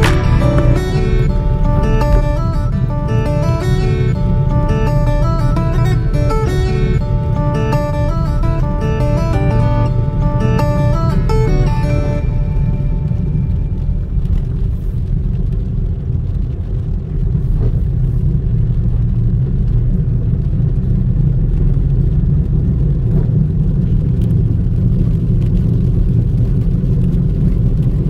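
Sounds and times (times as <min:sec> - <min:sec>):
car driving on wet road: 0:00.0 - 0:28.0.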